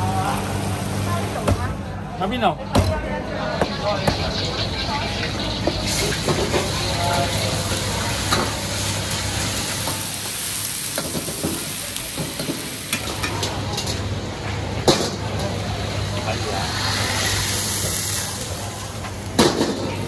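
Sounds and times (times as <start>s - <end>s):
food sizzling in hot oil: 3.4s - 20.0s.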